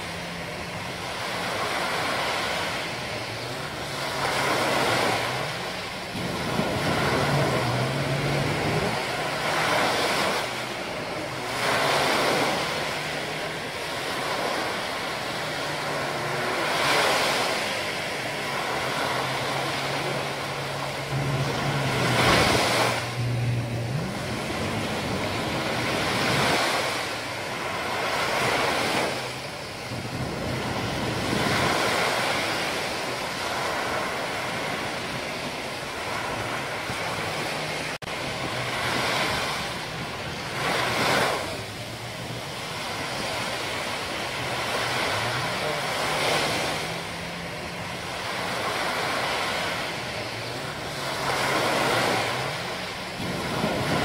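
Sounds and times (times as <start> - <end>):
waves washing up shore: 0.0 - 54.0.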